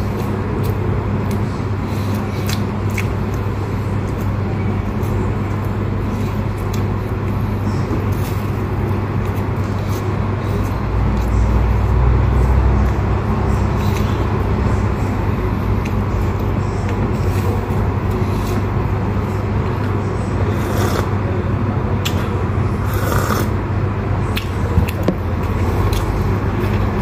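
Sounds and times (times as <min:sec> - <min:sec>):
chewing flaky pastry: 0:00.0 - 0:21.4, 0:24.2 - 0:27.0
steady low hum: 0:00.0 - 0:27.0.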